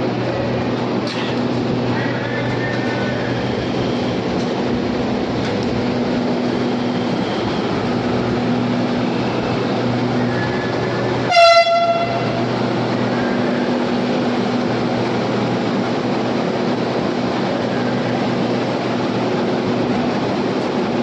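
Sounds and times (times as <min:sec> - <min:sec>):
train hum and rumble: 0:00.0 - 0:21.0.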